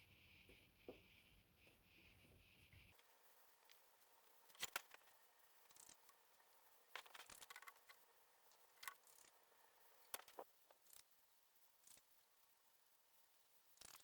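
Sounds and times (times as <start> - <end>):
faint clicks and scrapes: 0.0 - 14.0.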